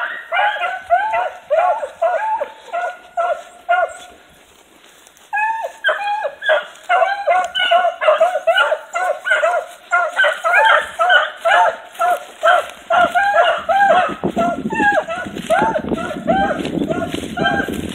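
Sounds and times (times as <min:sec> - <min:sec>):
dogs baying: 0:00.0 - 0:04.3, 0:05.4 - 0:17.9.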